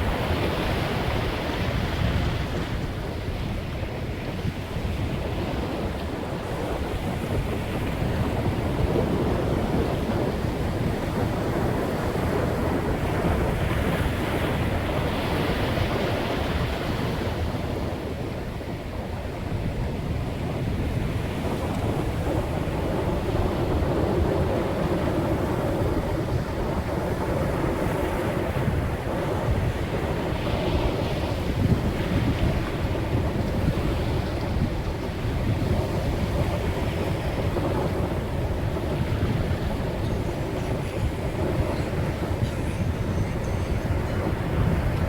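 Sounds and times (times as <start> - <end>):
sea waves washing ashore: 0.0 - 45.0
wind rumbling on microphone: 0.0 - 45.0.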